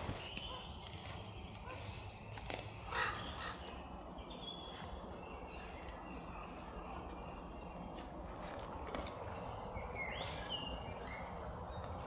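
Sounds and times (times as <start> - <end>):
high bird calls: 0.0 - 12.0.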